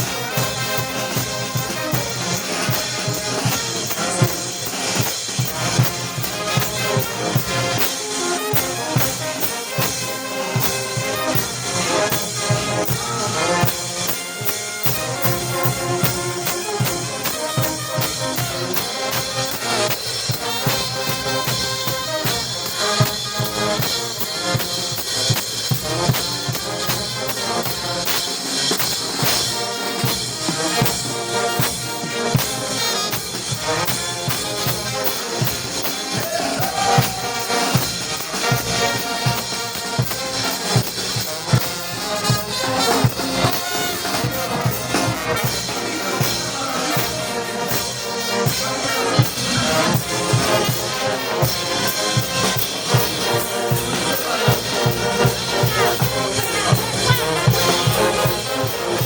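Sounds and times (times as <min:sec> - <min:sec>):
drum kit beat: 0:00.0 - 0:59.0
trumpets and trombones: 0:00.0 - 0:59.0.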